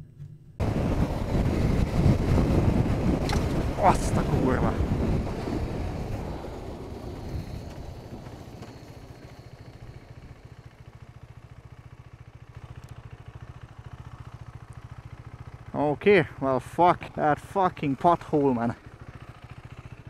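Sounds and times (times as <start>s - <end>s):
motorcycle engine idling: 0.0s - 20.0s
motorcycle riding and wind noise: 0.0s - 20.0s.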